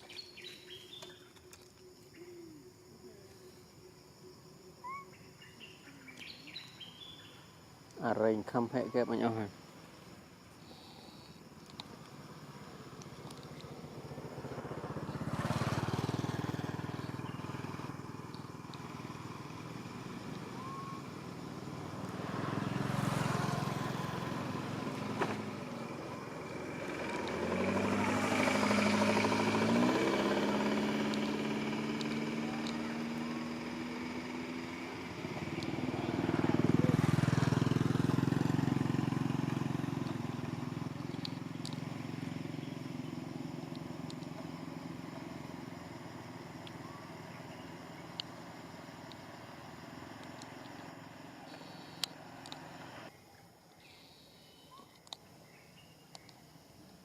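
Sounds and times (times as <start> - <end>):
motor vehicles passing: 5.4 - 53.1.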